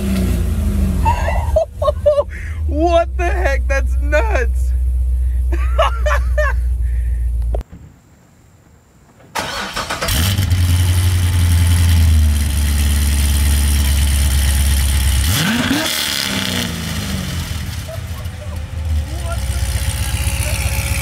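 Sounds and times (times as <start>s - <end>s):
car engine idling and revving: 0.0s - 7.6s, 9.8s - 21.0s.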